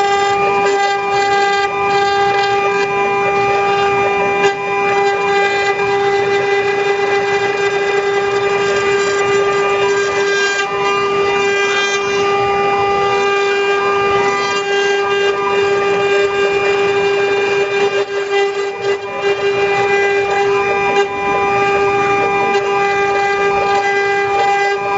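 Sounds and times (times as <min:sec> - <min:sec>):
bit cutting noise: 0:00.0 - 0:24.9
router spindle high whine: 0:00.0 - 0:24.9.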